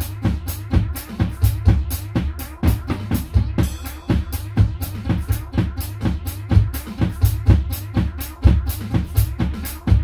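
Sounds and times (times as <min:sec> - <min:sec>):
bass drum thumps: 0:00.0 - 0:10.0
drum kit playing: 0:00.0 - 0:10.0.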